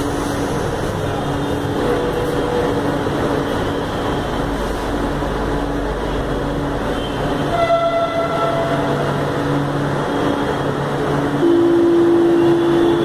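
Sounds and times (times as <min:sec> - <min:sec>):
metro train running inside car: 0:00.0 - 0:13.0.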